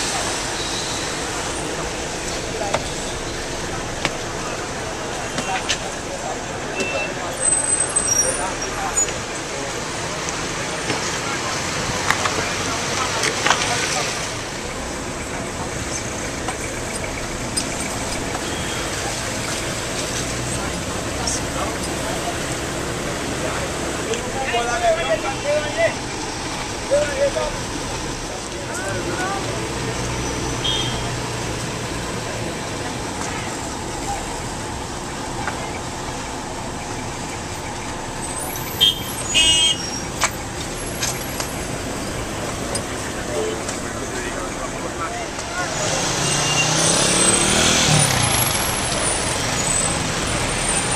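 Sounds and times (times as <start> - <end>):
low street rumble: 0.0 - 50.9
outdoor background noise: 0.0 - 50.9.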